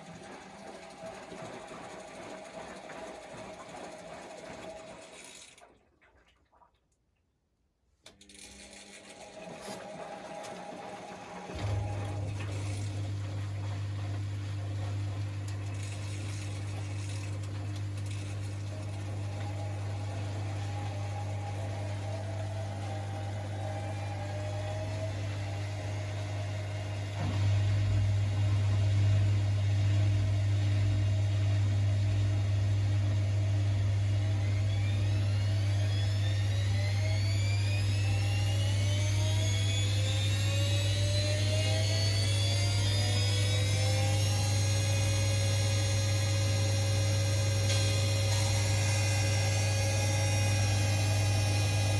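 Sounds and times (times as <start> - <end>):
washing machine spinning: 0.0 - 5.7, 8.2 - 51.9.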